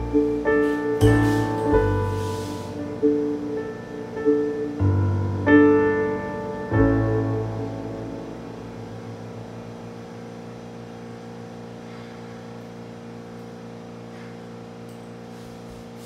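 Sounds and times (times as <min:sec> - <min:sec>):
piano chord ringing: 0:00.0 - 0:15.3.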